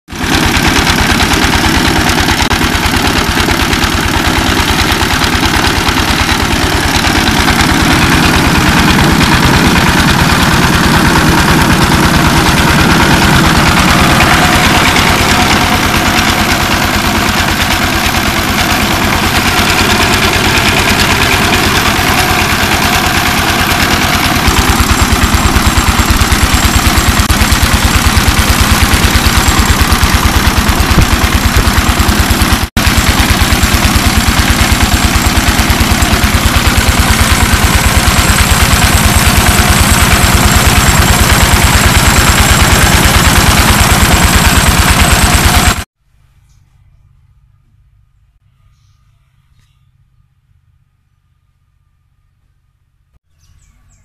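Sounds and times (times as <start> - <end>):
diesel engine chugging: 0.1 - 45.9
rice huller grinding: 0.1 - 45.9.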